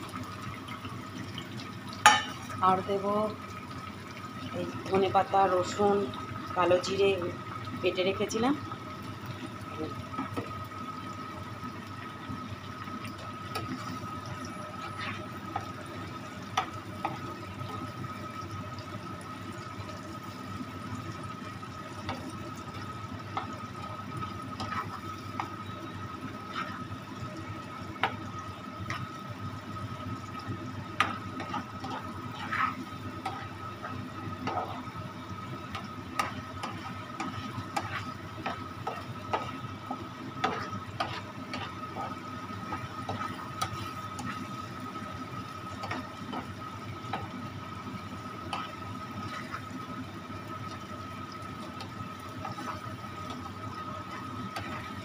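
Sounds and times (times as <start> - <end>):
paste sizzling in a pan: 8.7 - 55.0.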